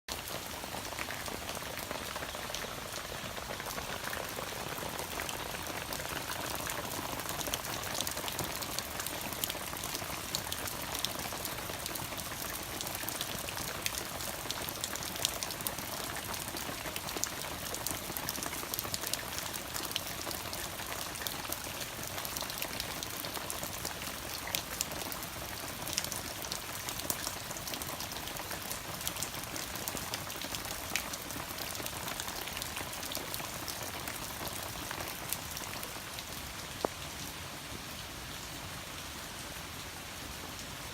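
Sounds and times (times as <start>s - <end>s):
heavy rain: 0.1s - 40.9s.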